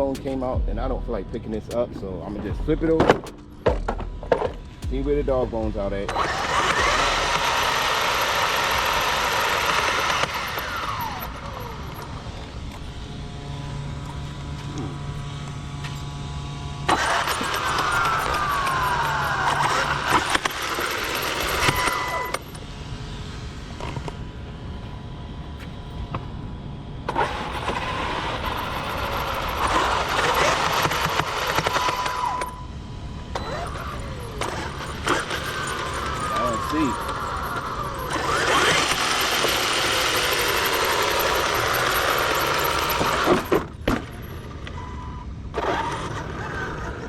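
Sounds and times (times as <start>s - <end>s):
rc truck motor whining: 0.0s - 47.0s.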